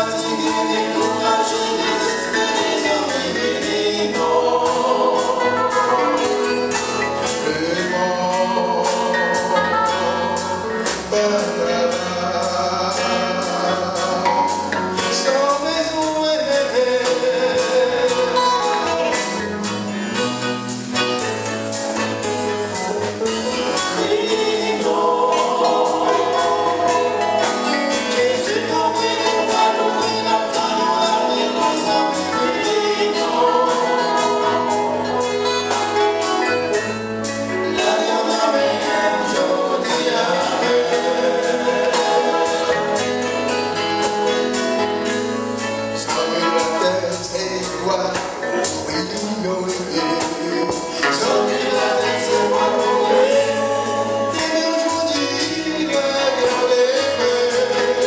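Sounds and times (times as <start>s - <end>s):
singers in harmony: 0.0s - 20.3s, 22.7s - 44.5s, 45.8s - 58.0s
live gospel band: 0.0s - 58.0s.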